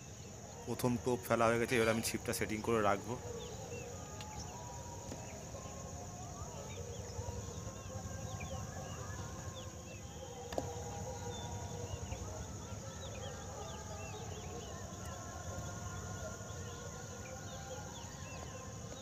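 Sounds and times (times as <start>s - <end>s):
insect hum: 0.0s - 19.0s
small birds chirping: 0.0s - 19.0s.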